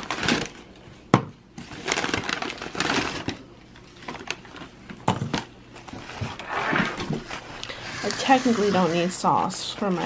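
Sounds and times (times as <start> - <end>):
paper packaging rustling: 0.0 - 0.9, 1.6 - 9.1.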